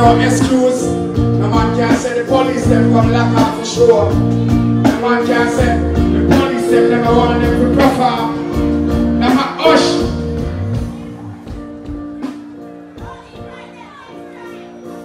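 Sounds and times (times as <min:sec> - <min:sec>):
bass line: 0:00.0 - 0:12.3
electric guitar: 0:00.0 - 0:13.5
keyboard chords: 0:00.0 - 0:15.0.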